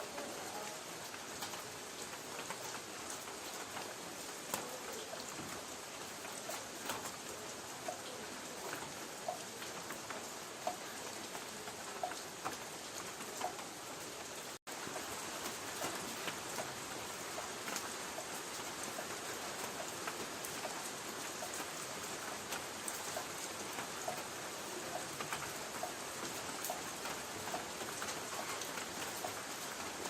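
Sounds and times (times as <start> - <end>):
light rain on a tin roof: 0.0 - 30.0.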